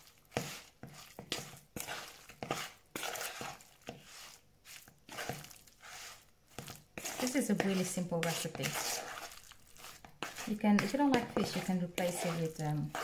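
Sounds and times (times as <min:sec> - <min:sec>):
spoon scraping batter in bowl: 0:00.0 - 0:13.0.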